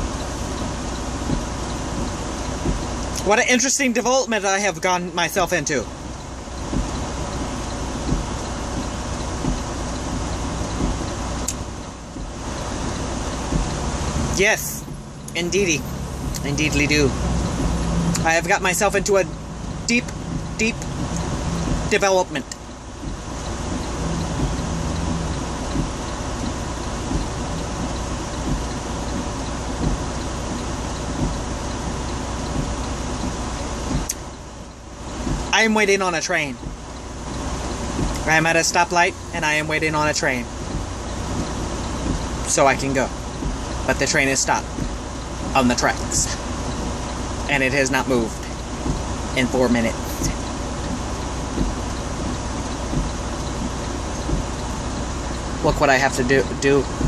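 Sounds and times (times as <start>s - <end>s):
low thumps: 0.0s - 3.2s, 5.9s - 35.6s, 36.5s - 38.3s, 39.0s - 43.9s, 44.6s - 45.6s, 48.4s - 57.0s
engine idling from inside cab: 0.0s - 57.0s.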